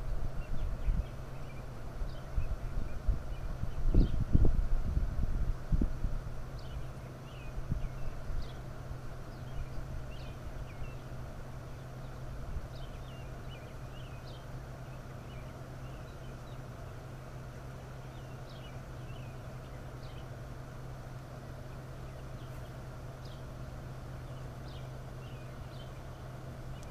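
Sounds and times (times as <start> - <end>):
small birds chirping: 0.0 - 4.6, 6.3 - 26.9
steady low hum: 0.0 - 26.9.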